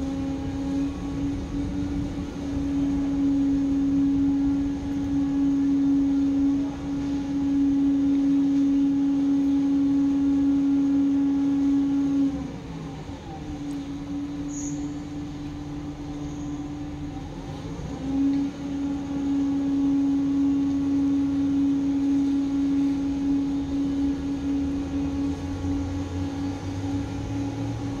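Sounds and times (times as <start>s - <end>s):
diesel construction machinery: 0.0s - 28.0s.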